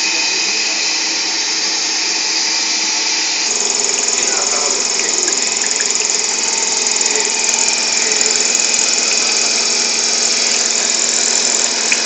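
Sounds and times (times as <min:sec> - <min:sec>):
machine whirring with hiss: 0:00.0 - 0:12.0.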